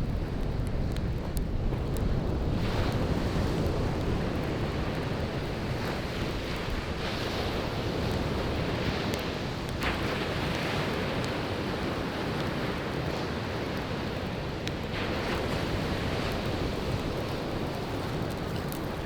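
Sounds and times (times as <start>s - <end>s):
campfire crackling pops: 0.0s - 19.0s
waves washing onto beach: 0.0s - 19.0s.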